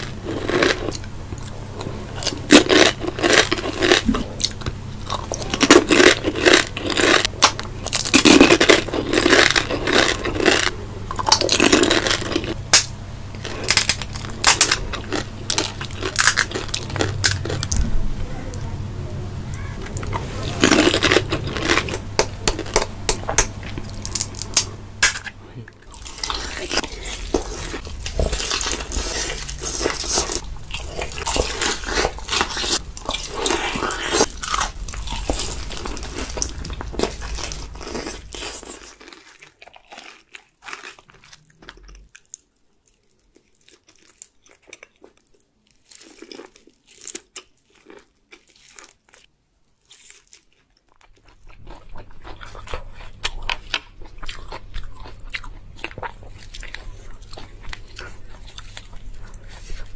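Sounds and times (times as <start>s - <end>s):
crunchy food chewing: 0.0s - 17.9s, 19.4s - 59.9s.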